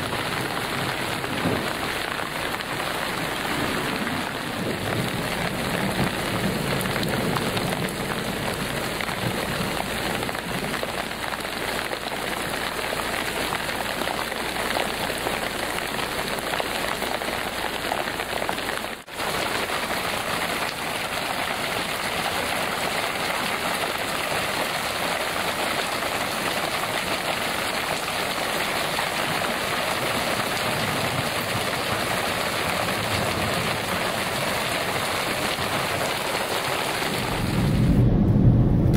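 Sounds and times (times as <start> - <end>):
heavy rain hissing: 0.0 - 38.1.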